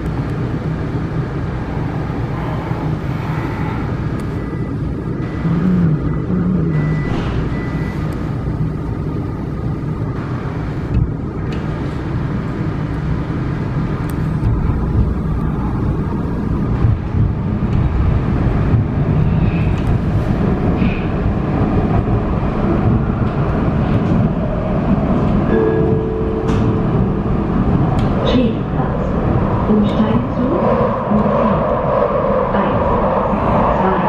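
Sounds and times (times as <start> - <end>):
subway train wheels rumbling: 0.0 - 34.0.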